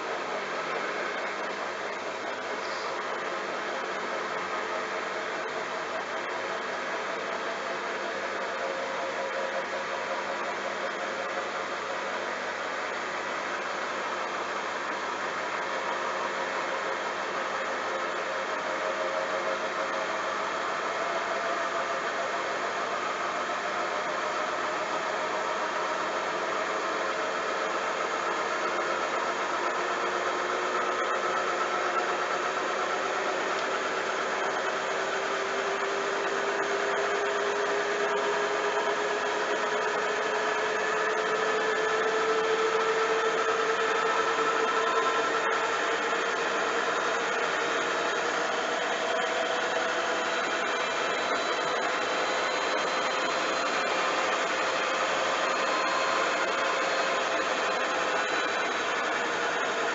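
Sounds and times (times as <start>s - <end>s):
washing machine motor whine: 0.0s - 59.9s.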